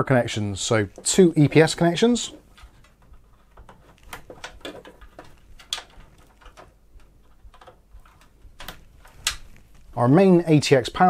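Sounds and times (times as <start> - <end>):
cable sleeving rustling: 0.3 - 11.0.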